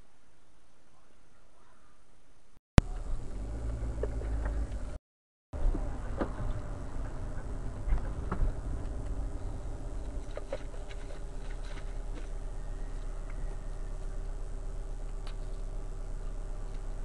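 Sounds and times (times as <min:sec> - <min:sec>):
car engine and road rumble: 0:02.8 - 0:05.0, 0:05.6 - 0:17.0.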